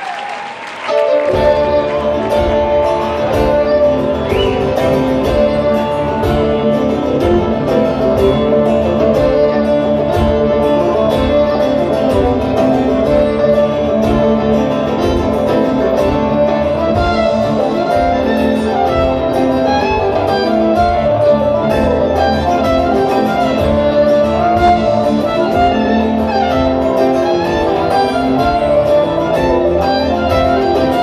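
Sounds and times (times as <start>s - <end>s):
acoustic string-band music: 0.8s - 31.0s.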